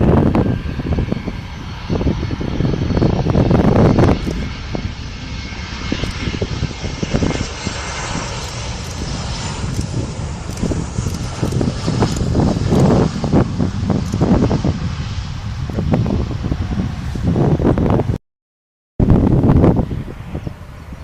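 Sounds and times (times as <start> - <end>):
airliner engines rushing: 0.0 - 18.2, 19.0 - 21.0.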